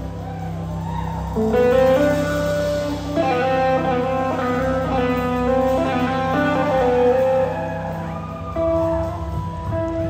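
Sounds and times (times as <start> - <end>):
bass guitar: 0.0 - 10.0
electric guitars playing lead notes: 0.0 - 10.0.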